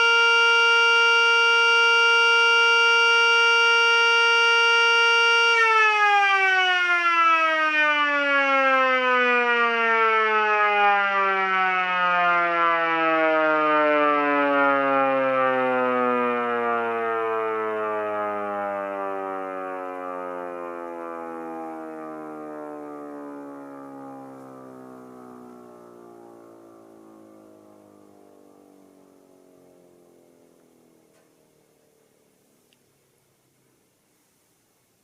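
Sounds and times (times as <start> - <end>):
siren winding down: 0.0 - 31.8.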